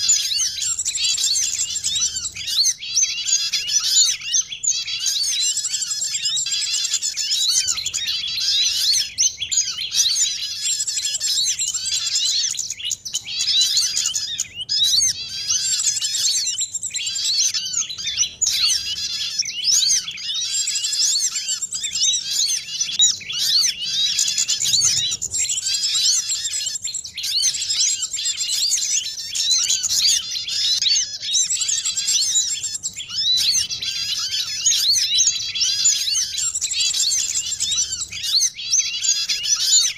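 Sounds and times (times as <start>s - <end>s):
chorus of small songbirds chirping: 0.0s - 39.9s.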